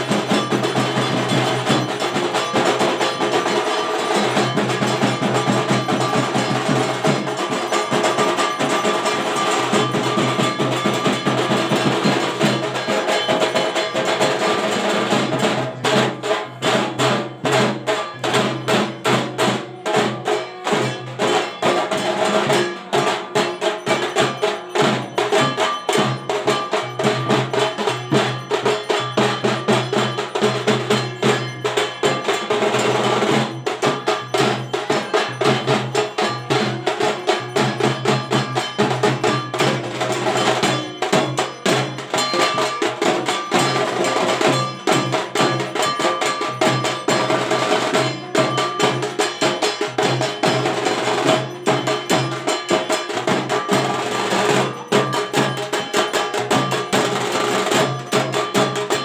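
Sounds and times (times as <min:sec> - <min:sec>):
bell-like clanking strikes: 0:00.0 - 0:59.0
drum hits: 0:00.0 - 0:59.0.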